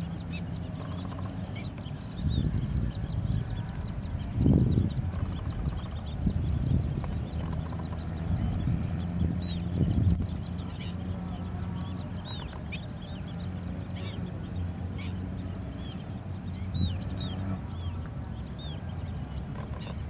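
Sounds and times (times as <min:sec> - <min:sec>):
flock of birds chirping: 0:00.0 - 0:20.0
steady low hum: 0:00.0 - 0:20.0.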